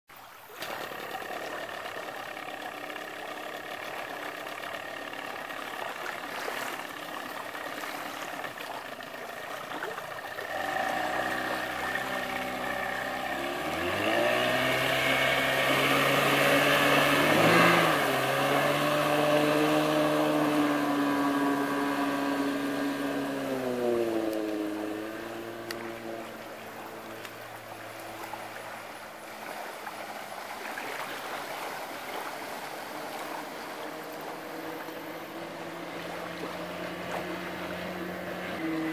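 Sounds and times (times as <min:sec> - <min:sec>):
outboard motor running: 0:00.1 - 0:38.9.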